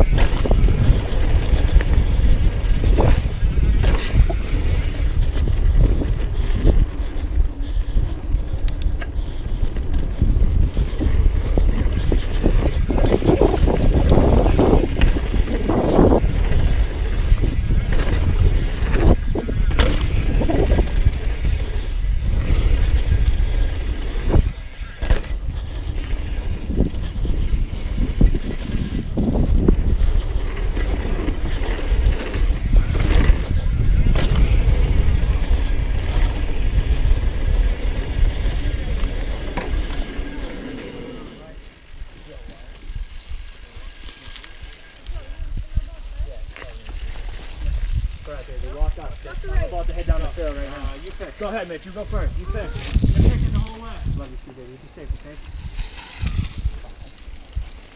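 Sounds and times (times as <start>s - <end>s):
wind buffeting microphone: 0.0s - 42.1s, 42.8s - 57.9s
tyres rolling on dirt: 0.0s - 45.1s, 46.4s - 57.9s
bike clicks and rattles: 0.0s - 57.9s.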